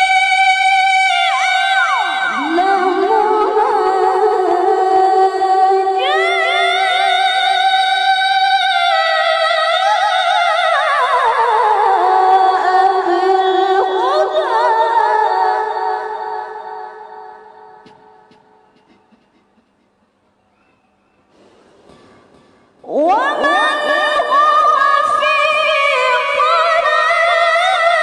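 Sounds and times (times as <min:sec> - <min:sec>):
woman reciting melodically: 0:00.0 - 0:18.2, 0:22.8 - 0:28.0.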